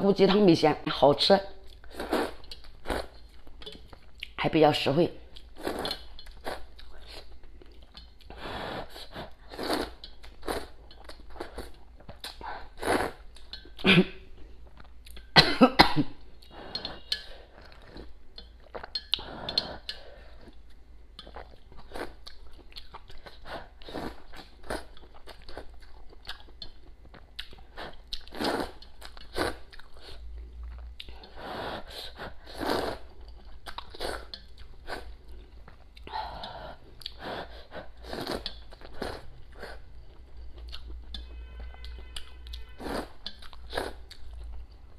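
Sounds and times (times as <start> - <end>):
person chewing: 1.6 - 4.4, 5.2 - 15.4, 16.2 - 44.9.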